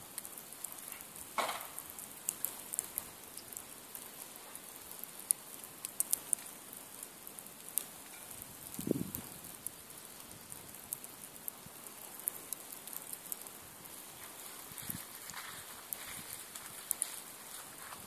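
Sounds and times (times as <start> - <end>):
campfire logs crackling: 0.0 - 18.0
fire popping and ticking: 0.0 - 18.0
soft fire hiss: 0.0 - 18.0.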